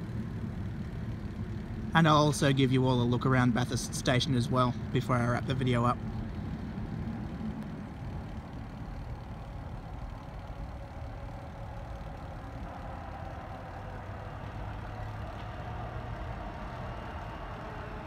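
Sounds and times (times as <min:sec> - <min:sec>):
diesel locomotive engine running: 0:00.0 - 0:18.0
faint steady hum: 0:00.0 - 0:18.0.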